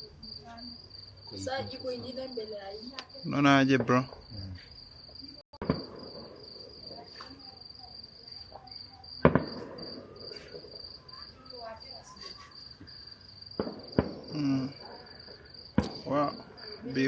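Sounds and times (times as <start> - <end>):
crickets chirping: 0.0 - 17.0
distant firework bangs: 1.6 - 17.0.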